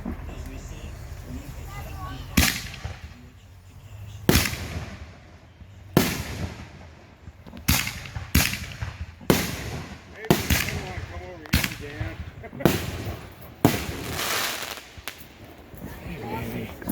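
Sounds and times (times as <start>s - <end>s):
fireworks exploding with echo: 0.0s - 16.7s.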